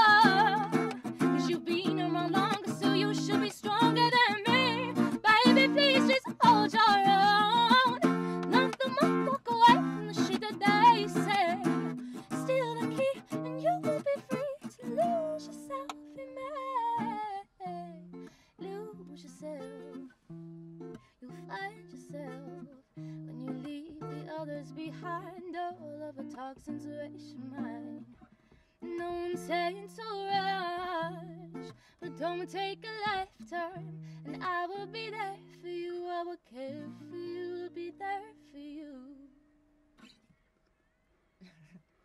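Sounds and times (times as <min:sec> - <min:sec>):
woman singing: 0:00.0 - 0:20.1, 0:21.2 - 0:28.1, 0:28.8 - 0:39.4
acoustic guitar: 0:00.0 - 0:40.5.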